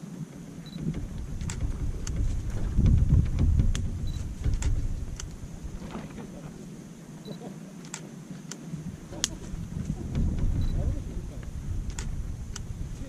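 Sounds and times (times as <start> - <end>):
campfire crackling and popping: 0.3 - 7.1, 7.8 - 13.0
low rumble: 0.5 - 7.0, 8.8 - 13.0.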